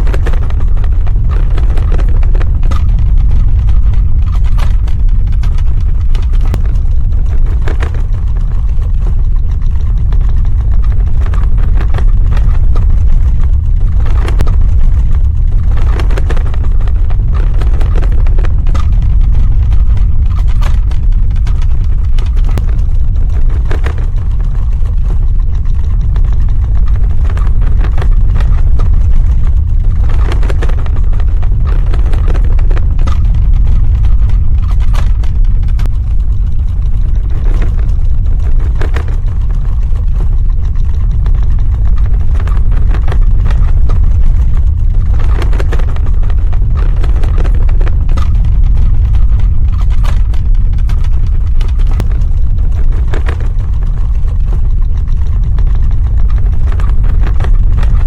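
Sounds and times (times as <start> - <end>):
crackling: 0.0 - 58.0
deep rumble: 0.0 - 58.0.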